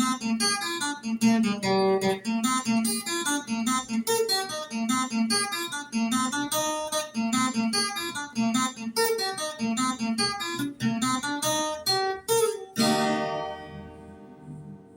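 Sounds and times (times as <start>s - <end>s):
plucked guitar notes: 0.0s - 14.9s
strummed guitar chord: 0.0s - 14.9s.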